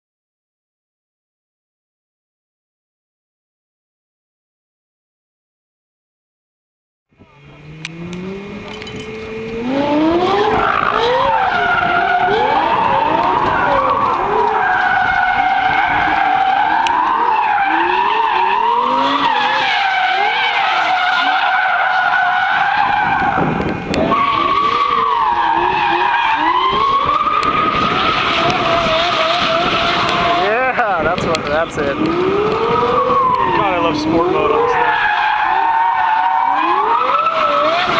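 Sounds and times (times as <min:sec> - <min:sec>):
car engine revving: 0:07.2 - 0:37.9
tyres squealing: 0:07.4 - 0:37.9.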